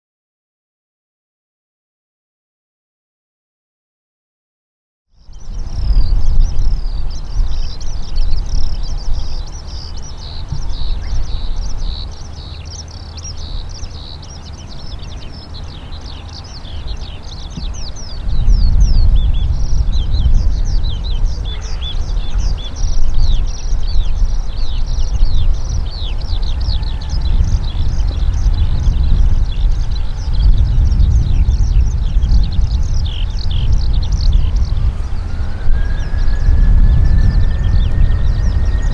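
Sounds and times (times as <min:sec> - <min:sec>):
birds chirping: 0:05.2 - 0:38.9
low uneven rumble: 0:05.3 - 0:38.9.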